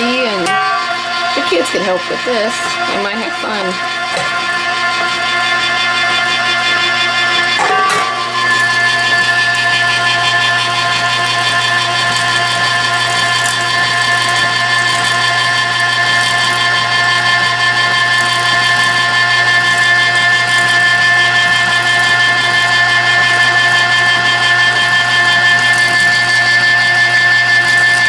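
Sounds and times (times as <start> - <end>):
electric meat grinder whining: 0.0 - 28.0.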